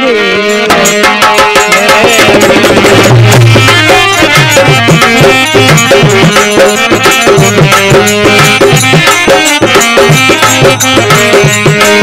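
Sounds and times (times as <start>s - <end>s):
dholak drum rhythm: 0.0s - 12.0s
harmonium chords: 0.0s - 12.0s.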